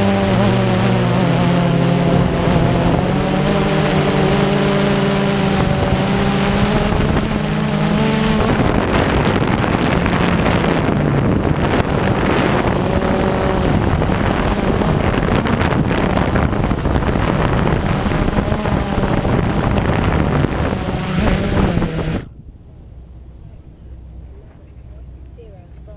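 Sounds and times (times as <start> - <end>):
drone motors whining: 0.0 - 22.5
wind buffeting microphone: 0.0 - 25.9.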